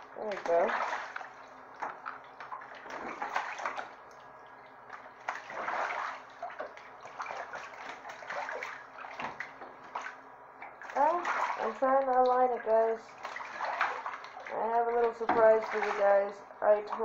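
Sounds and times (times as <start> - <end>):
goose splashing in water: 0.2 - 4.3, 4.9 - 10.2, 10.8 - 16.3.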